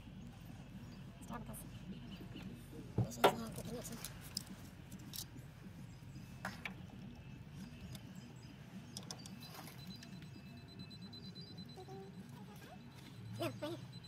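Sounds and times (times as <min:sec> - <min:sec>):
low wavering hum: 0:00.0 - 0:14.0.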